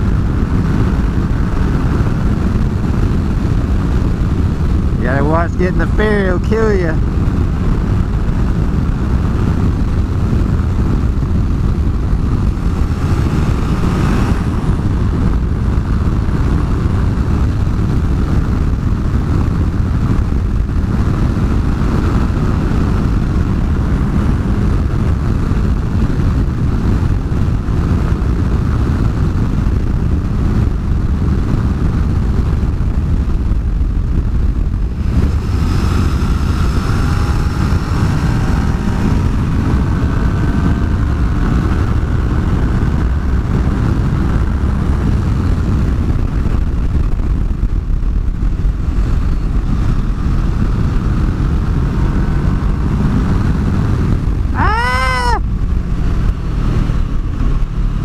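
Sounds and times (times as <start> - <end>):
motorcycle engine whine: 0.0 - 58.0
wind rushing over microphone: 0.0 - 58.0.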